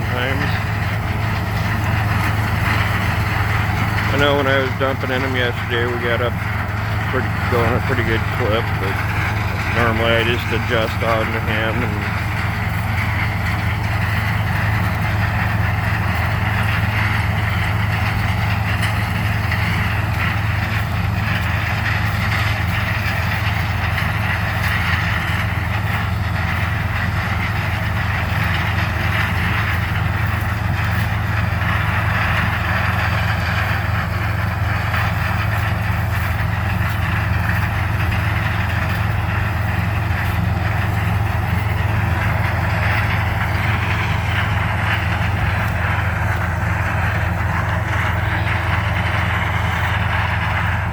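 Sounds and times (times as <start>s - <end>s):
harvester and tractor engines droning: 0.0s - 50.9s.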